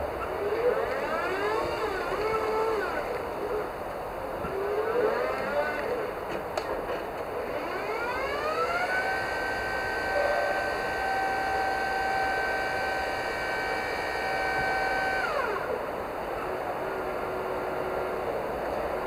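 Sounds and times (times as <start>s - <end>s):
hydraulic pump motor whining: 0.0s - 6.3s, 7.4s - 18.3s.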